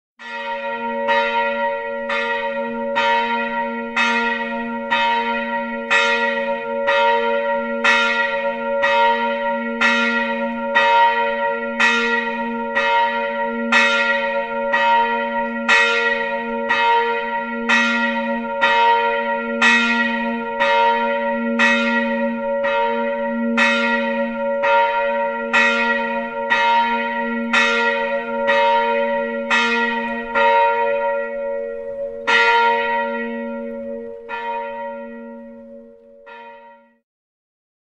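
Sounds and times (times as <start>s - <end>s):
church bells ringing: 0.2s - 37.0s.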